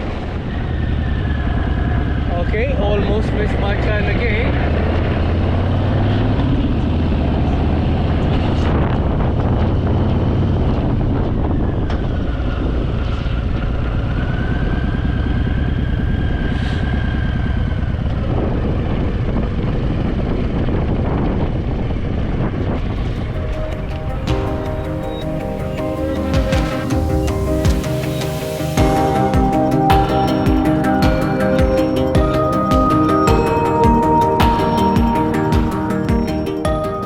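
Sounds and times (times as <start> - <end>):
wind noise on microphone: 0.0 - 31.0.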